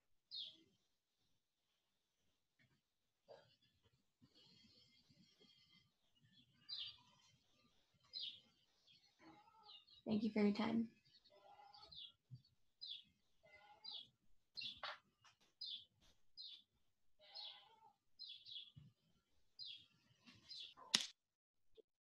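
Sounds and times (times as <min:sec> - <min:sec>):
songbird chirping: 0:00.3 - 0:00.8, 0:03.4 - 0:21.0.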